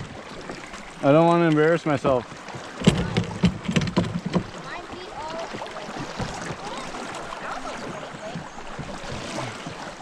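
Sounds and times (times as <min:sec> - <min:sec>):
river water gurgling: 0:00.0 - 0:10.0.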